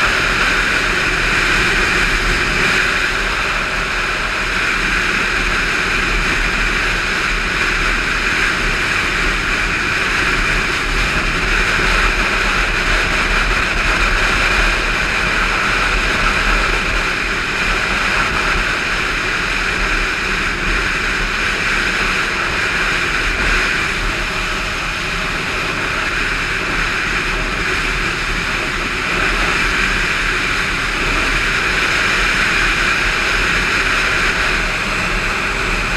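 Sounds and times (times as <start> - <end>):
motorcycle engine droning: 0.0 - 35.9
road noise: 0.0 - 35.9
wind rush: 0.0 - 35.9.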